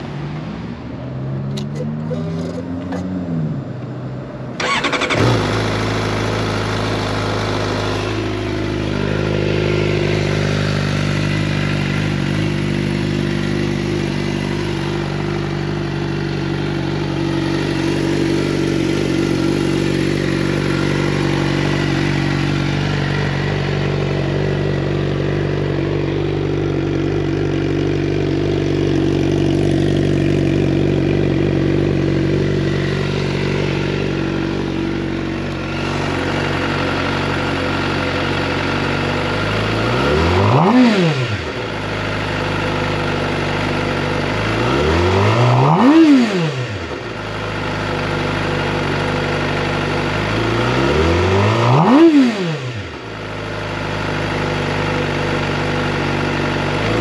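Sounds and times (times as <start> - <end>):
motorcycle engine starting and idling: 0.0 - 57.0.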